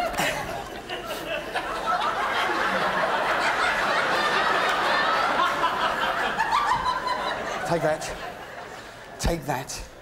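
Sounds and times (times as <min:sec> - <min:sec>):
audience laughing: 0:00.0 - 0:09.2.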